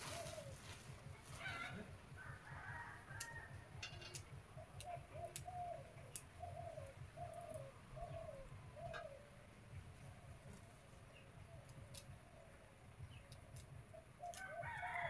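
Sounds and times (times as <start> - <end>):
bird calling: 0.0 - 2.0, 3.8 - 14.7.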